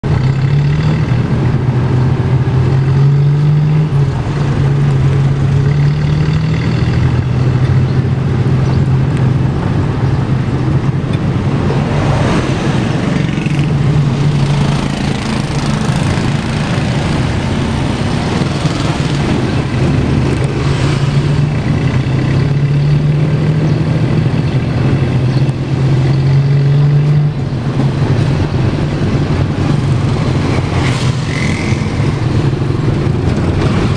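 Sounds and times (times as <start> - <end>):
auto rickshaw engine running: 0.0 - 33.9
road and traffic noise: 0.0 - 33.9.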